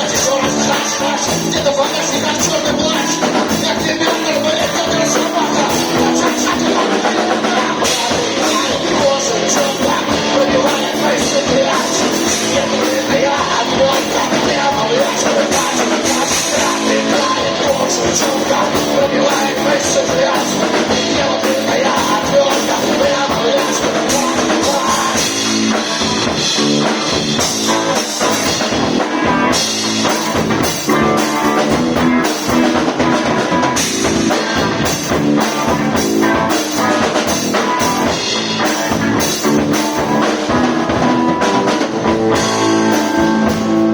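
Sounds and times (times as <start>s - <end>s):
drum kit beat: 0.0s - 43.9s
guitar: 0.0s - 43.9s.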